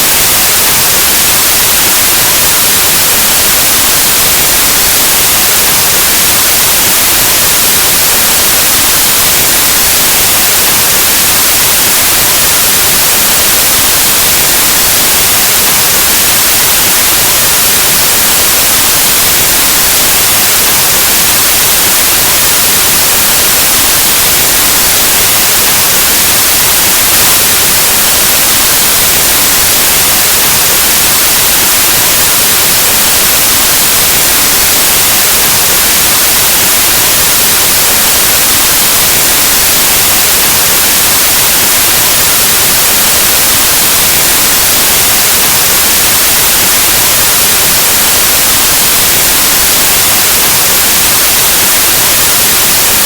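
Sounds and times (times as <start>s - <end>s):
white noise static hiss: 0.0s - 53.0s.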